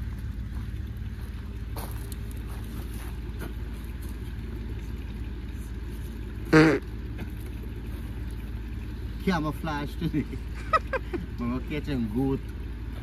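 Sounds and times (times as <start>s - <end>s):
air compressor running: 0.0s - 11.8s.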